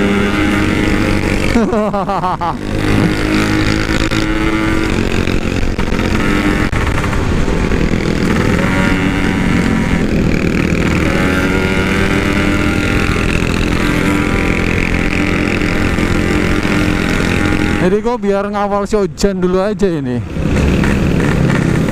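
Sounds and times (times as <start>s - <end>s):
two-stroke motorcycle engine revving: 0.0s - 19.6s, 20.2s - 21.9s.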